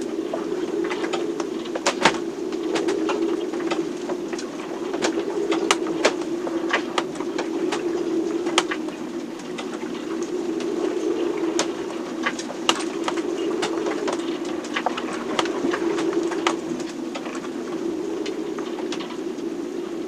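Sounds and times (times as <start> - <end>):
wind moaning in rigging: 0.0 - 20.0.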